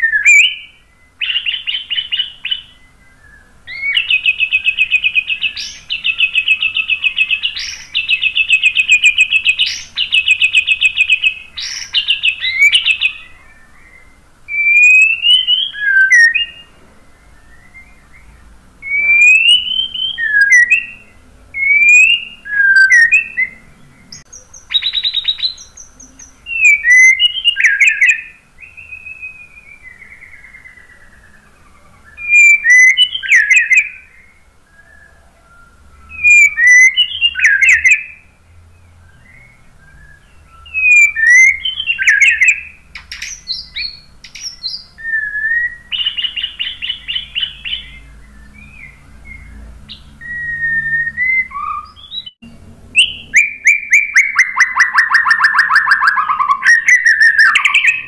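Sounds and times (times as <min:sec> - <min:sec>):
bird singing trills and whistles: 0:00.0 - 0:58.0.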